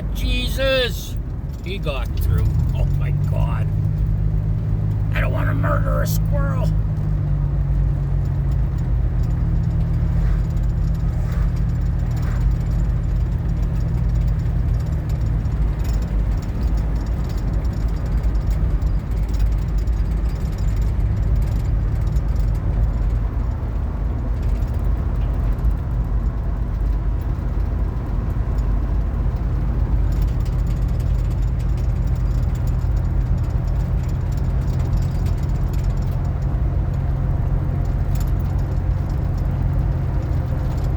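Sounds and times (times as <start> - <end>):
road noise: 0.0 - 40.9
van engine drone: 0.0 - 40.9.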